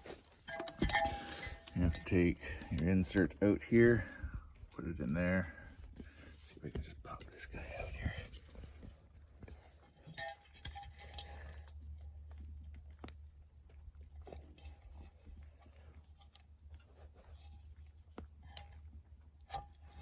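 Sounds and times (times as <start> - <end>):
small clicks knocks and scrapes: 0.0 - 4.0, 5.8 - 20.0.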